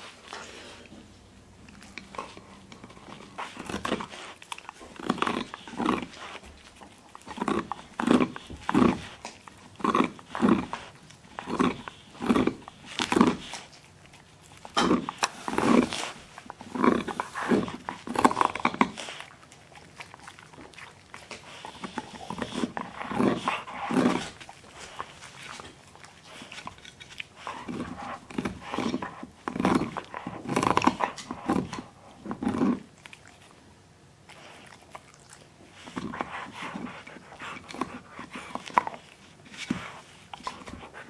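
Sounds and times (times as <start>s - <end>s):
dog chewing hard antler: 1.6s - 33.6s, 34.2s - 41.0s.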